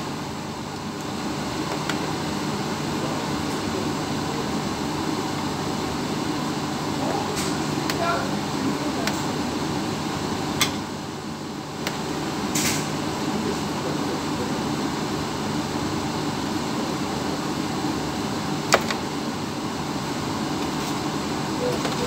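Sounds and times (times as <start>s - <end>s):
machinery and ventilation hum: 0.0s - 22.0s.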